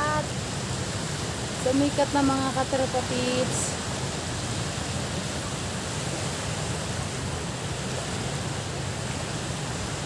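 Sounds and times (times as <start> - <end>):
sea water rushing: 0.0 - 10.0
wind: 0.0 - 10.0.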